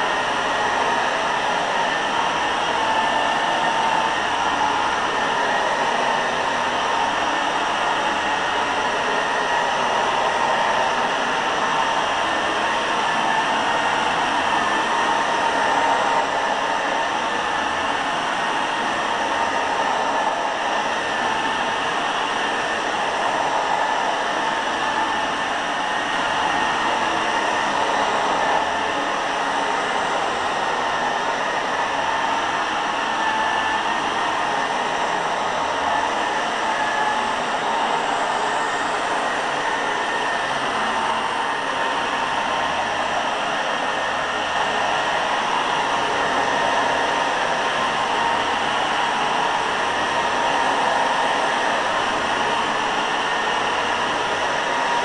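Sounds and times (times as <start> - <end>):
carpet cleaner motor whining: 0.0 - 55.0.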